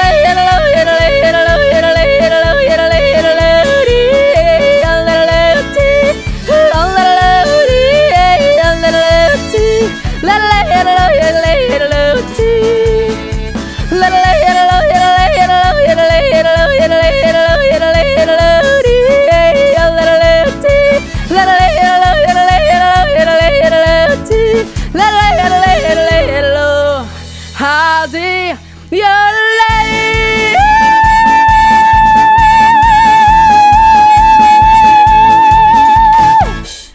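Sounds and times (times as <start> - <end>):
bouncy music with bass beat: 0.0 - 27.0, 29.4 - 36.9
person yodeling: 0.0 - 27.0, 29.0 - 36.6.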